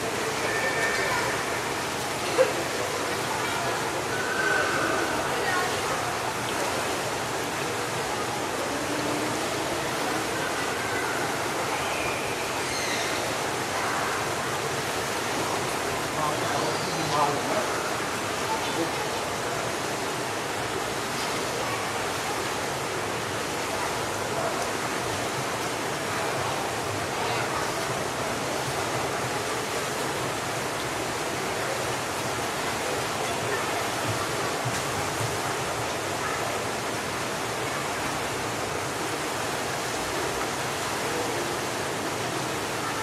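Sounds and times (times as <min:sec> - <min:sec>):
crowd of voices: 0:00.0 - 0:43.0
water splashing: 0:00.0 - 0:43.0.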